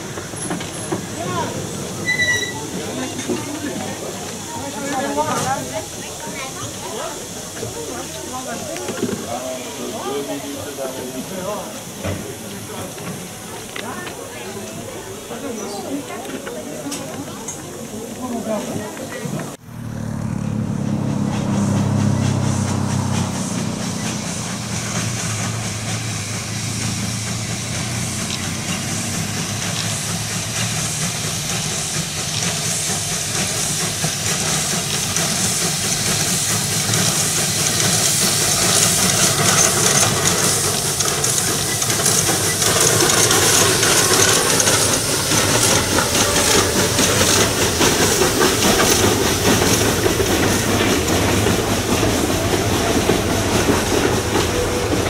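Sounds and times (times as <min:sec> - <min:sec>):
steam hiss: 0:00.0 - 0:19.6, 0:21.0 - 0:55.0
wheels clattering on rail joints: 0:00.0 - 0:19.6, 0:20.9 - 0:55.0
steam locomotive passing: 0:00.0 - 0:55.0.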